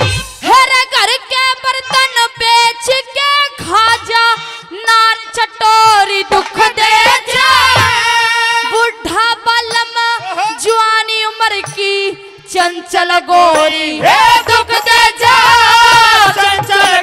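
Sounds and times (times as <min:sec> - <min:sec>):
woman singing through loudspeaker: 0:00.4 - 0:17.0.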